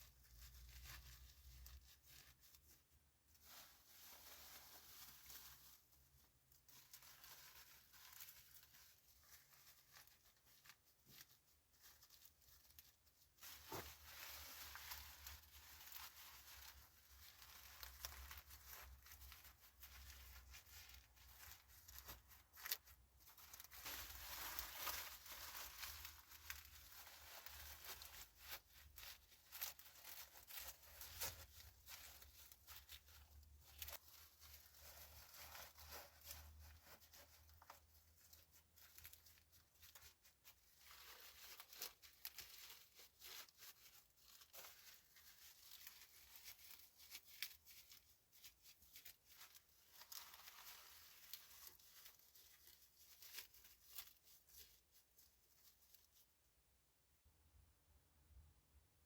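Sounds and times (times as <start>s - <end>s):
material rustling and crinkling: 0.0s - 57.2s.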